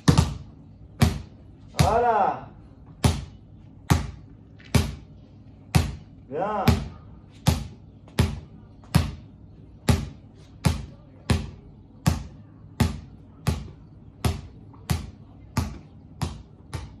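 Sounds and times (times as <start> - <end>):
basketball bouncing on tiled floor: 0.0 - 2.1, 2.8 - 17.0.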